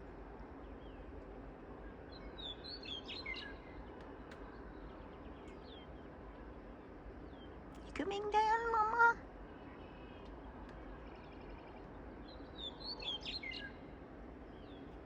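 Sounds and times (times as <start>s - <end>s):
outdoor background hiss: 0.0s - 15.0s
birds chirping: 0.4s - 15.0s.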